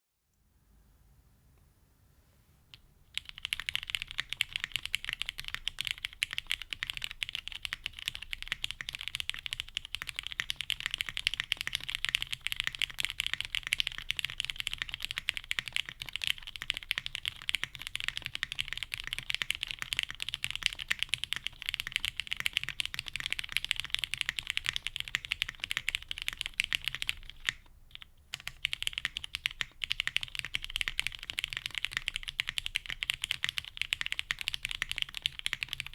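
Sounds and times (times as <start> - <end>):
fast typing on mechanical keyboard: 3.1 - 35.9.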